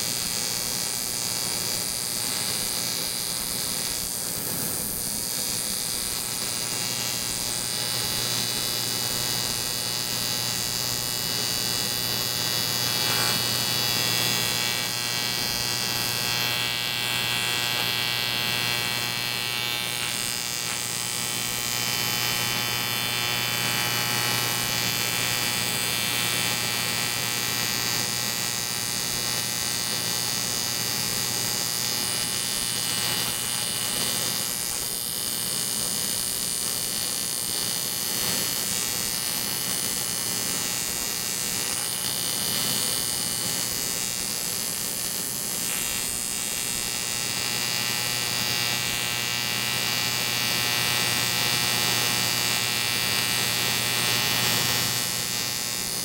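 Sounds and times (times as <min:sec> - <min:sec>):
welding arc buzzing: 0:00.0 - 0:56.0
welding hiss: 0:00.0 - 0:56.0.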